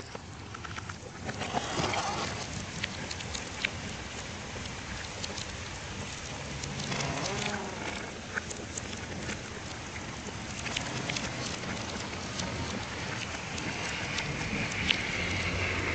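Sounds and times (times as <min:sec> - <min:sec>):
close drips ticking: 0:00.0 - 0:15.9
rain falling on leaves: 0:00.0 - 0:15.9.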